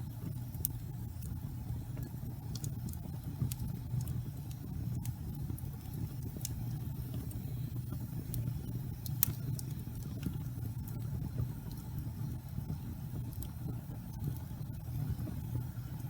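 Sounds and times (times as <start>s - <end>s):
fire crackling and popping: 0.0s - 16.0s
wood fire rumbling: 0.0s - 16.0s.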